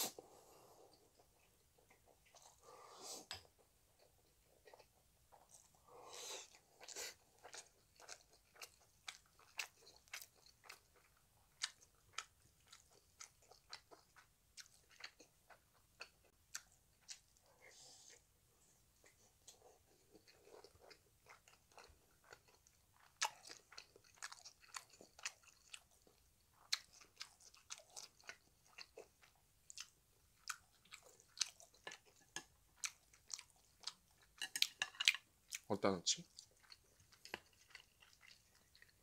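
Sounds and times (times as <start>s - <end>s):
person chewing noodles: 0.0s - 39.0s.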